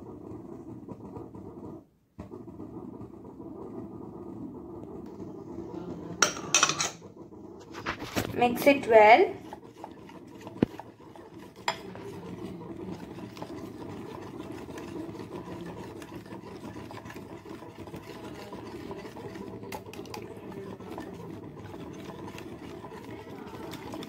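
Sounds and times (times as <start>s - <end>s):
whisk swishing in bowl: 0.0s - 24.0s.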